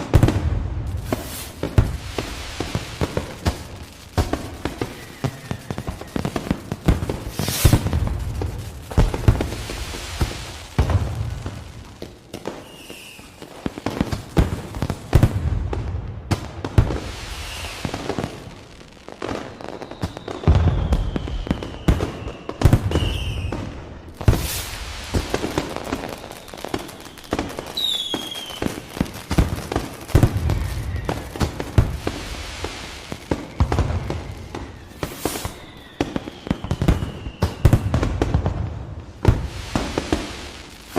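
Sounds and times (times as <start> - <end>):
deep firework booms: 0.0 - 12.6, 13.6 - 18.6, 20.0 - 40.9
whistling rockets: 0.0 - 15.9, 16.6 - 40.9
firework bangs and crackles: 0.0 - 40.9.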